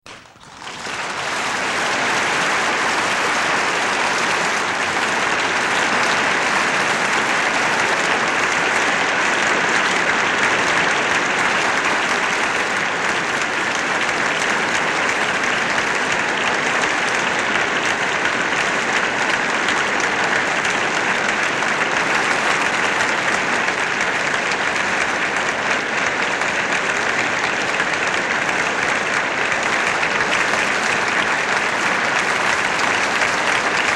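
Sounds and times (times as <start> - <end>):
audience applauding: 0.0 - 33.9.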